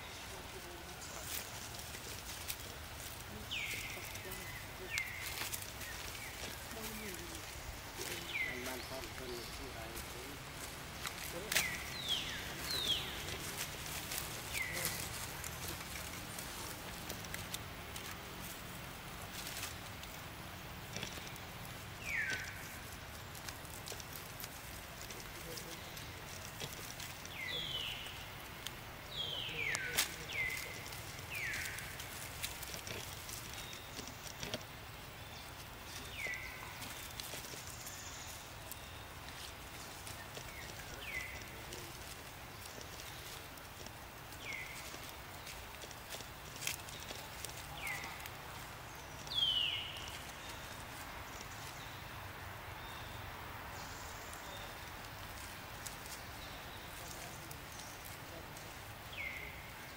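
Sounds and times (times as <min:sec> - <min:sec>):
steady outdoor hiss: 0:00.0 - 0:59.9
clicks of movement in leaf litter: 0:00.1 - 0:53.1, 0:53.7 - 0:59.9.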